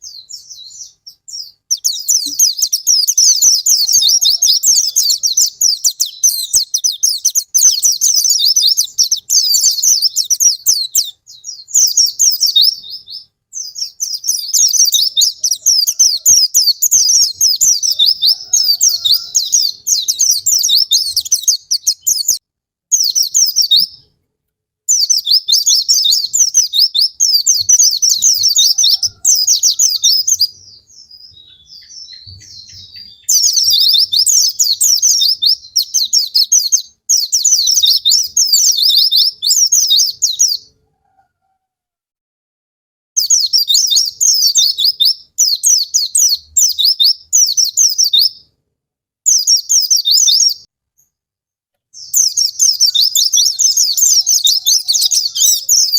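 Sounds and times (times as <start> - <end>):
high-pitched bird twittering: 0.0 - 24.0, 24.9 - 40.8, 43.2 - 48.5, 49.2 - 50.7, 52.0 - 55.9.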